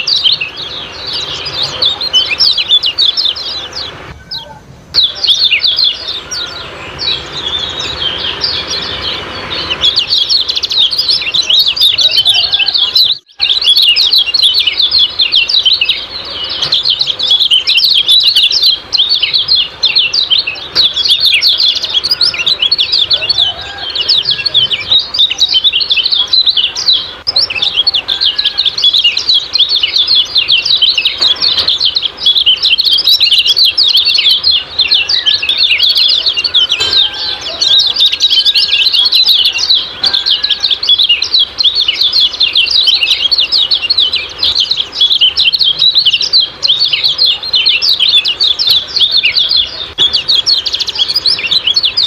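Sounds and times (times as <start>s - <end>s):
bird high-pitched chirps: 0.0s - 52.0s.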